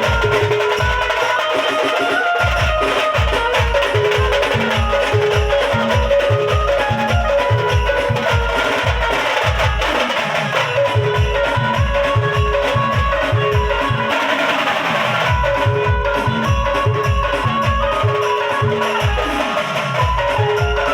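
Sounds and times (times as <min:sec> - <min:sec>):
banjo party music: 0:00.0 - 0:20.9.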